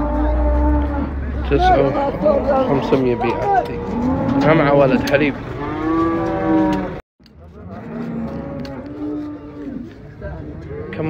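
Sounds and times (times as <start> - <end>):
cattle mooing: 0.0 - 7.0, 7.6 - 11.0.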